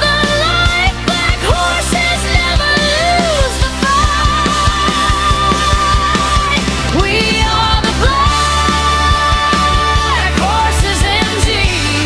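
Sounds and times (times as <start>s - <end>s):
sliding lead melody: 0.0s - 12.0s
steady drum beat: 0.0s - 12.0s.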